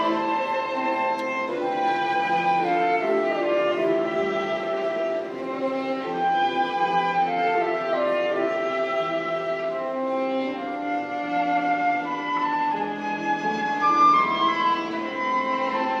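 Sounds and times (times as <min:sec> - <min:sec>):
flute: 0:00.0 - 0:16.0
violin: 0:00.0 - 0:16.0.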